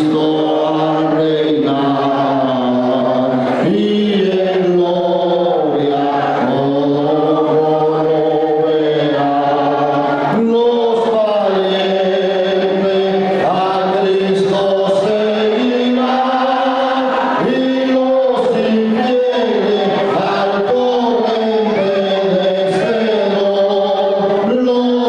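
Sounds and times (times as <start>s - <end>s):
voices singing long notes: 0.0s - 25.0s.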